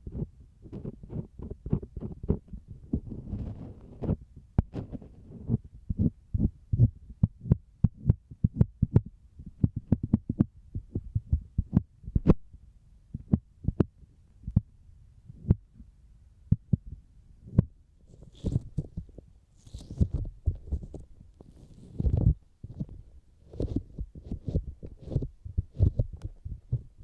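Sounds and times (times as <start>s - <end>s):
fingertips tapping on microphone: 0.0s - 12.4s, 16.5s - 27.0s.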